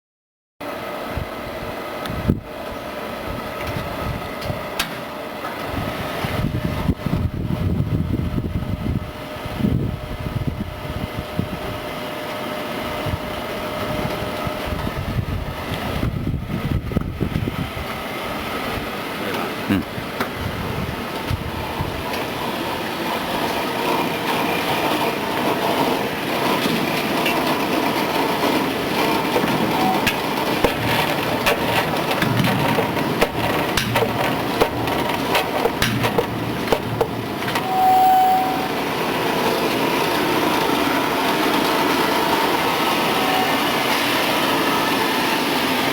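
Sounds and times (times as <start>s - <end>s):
frying machine humming: 0.6s - 45.9s.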